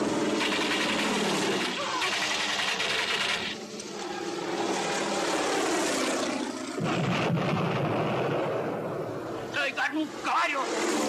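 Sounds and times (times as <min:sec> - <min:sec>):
deeper louder drone: 0:00.0 - 0:11.0
propeller airplane engine droning: 0:00.0 - 0:11.0.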